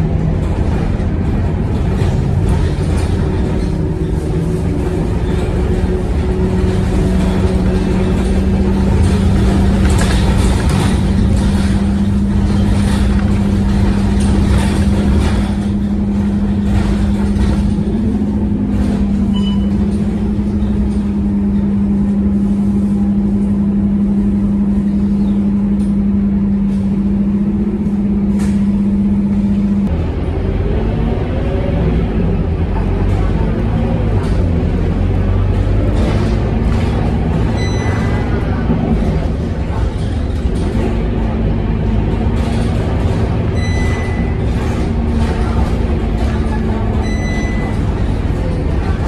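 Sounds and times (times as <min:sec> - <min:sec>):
bus diesel engine running: 0:00.0 - 0:49.0
low road rumble: 0:00.0 - 0:49.0.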